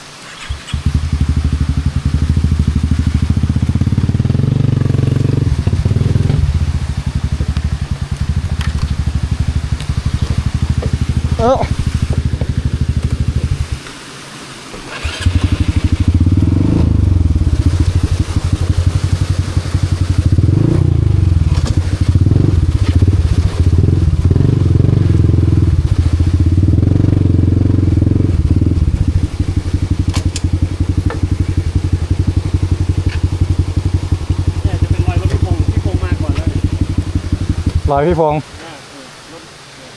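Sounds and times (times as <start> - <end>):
motorcycle engine revving under load: 0.4 - 13.8, 14.8 - 38.4.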